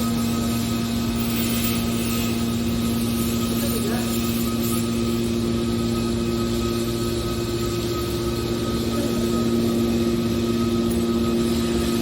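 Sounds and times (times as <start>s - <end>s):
hydraulic baler power unit humming: 0.0s - 12.0s.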